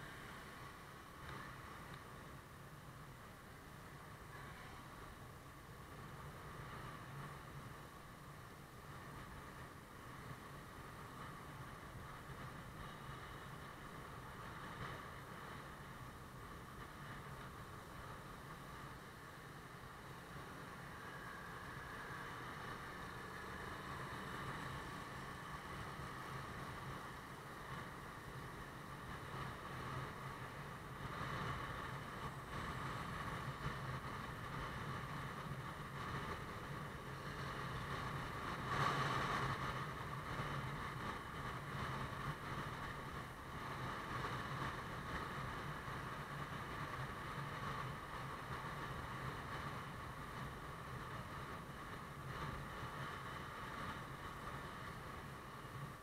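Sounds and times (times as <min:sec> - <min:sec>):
motorbike engine hum: 0:00.0 - 0:56.0
road noise: 0:00.0 - 0:56.0
wind noise: 0:00.0 - 0:56.0.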